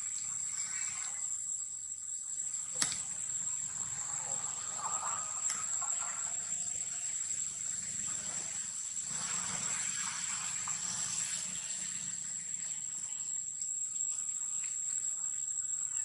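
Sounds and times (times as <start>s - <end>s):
forest insects droning: 0.0s - 16.0s.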